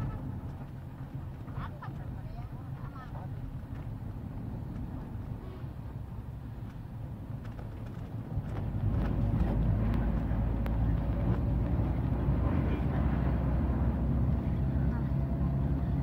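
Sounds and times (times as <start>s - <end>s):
road and wind noise: 0.0s - 16.0s
vehicle engine hum: 0.0s - 16.0s.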